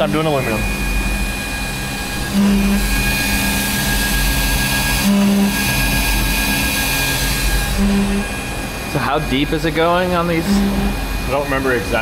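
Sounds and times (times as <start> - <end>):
short low hum: 0.0 - 11.4
mill spindle whine and cutting: 0.0 - 12.0.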